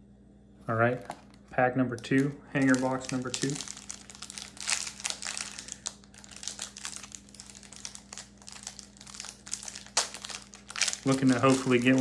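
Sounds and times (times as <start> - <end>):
foil wrapper crinkling: 0.9 - 12.0.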